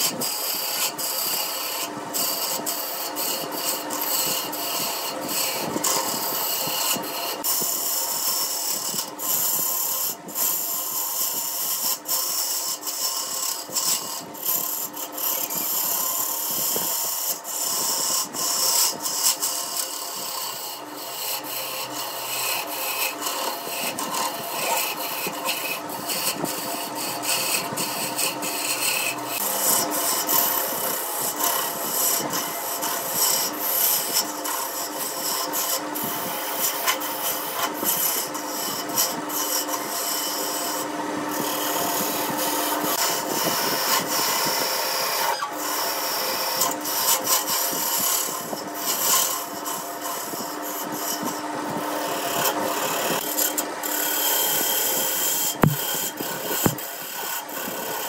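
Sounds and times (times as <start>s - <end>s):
turning tool scraping wood: 0.0s - 58.0s
wood lathe motor hum: 0.0s - 58.0s.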